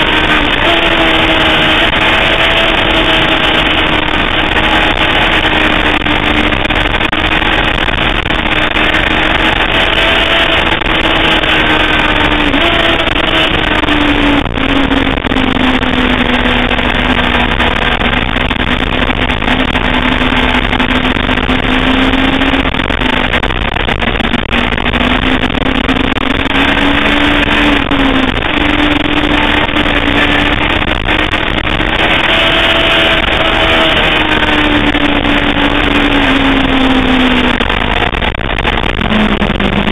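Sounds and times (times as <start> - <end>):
motorcycle engine at speed: 0.0 - 39.9
steady rush of noise: 0.0 - 39.9.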